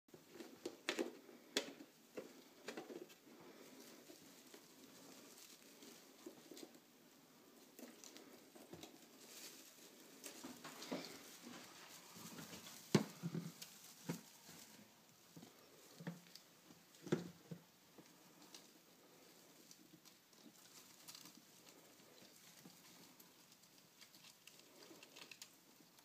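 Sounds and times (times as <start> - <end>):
mice rustling and scratching: 0.1 - 26.0.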